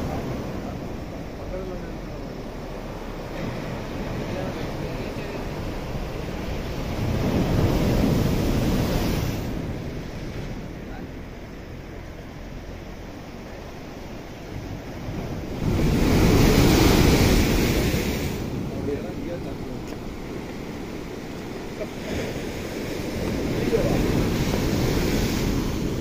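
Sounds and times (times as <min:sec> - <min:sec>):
soft surf wash: 0:00.0 - 0:26.0
waves crashing against seawall: 0:00.0 - 0:26.0.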